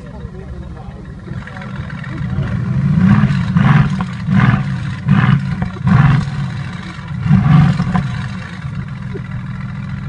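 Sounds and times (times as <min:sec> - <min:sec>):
car engine idling: 0:00.0 - 0:10.0
engine throttle blips: 0:00.0 - 0:10.0.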